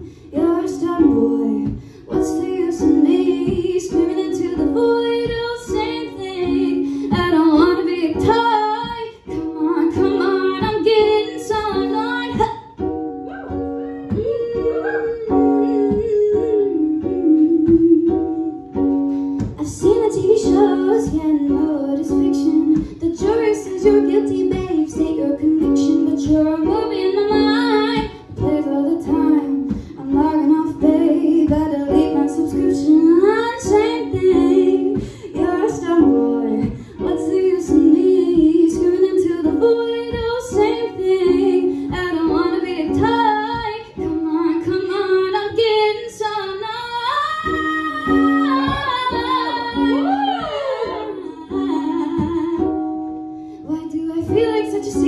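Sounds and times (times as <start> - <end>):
strummed small acoustic string instrument: 0.0 - 55.0
woman singing: 0.0 - 55.0.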